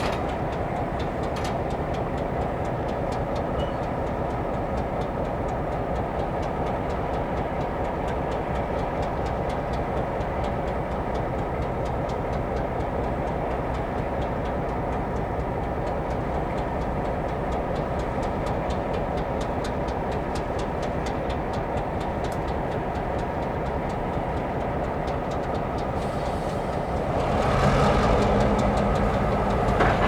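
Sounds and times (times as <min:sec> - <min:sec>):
freight train rumbling: 0:00.0 - 0:30.0
wheels clicking on rails: 0:00.0 - 0:30.0.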